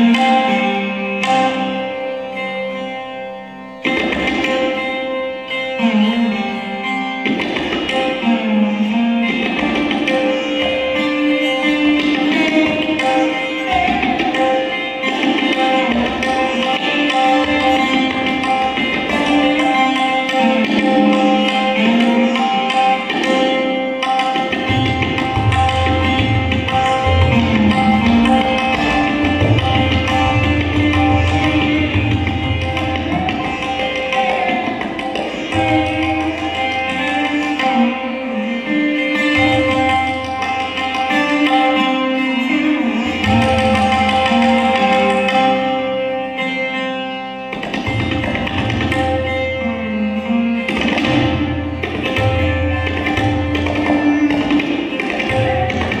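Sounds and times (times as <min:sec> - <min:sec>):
tabla drumming: 0:00.0 - 0:02.8, 0:03.8 - 0:56.0
slide string instrument melody: 0:00.0 - 0:56.0.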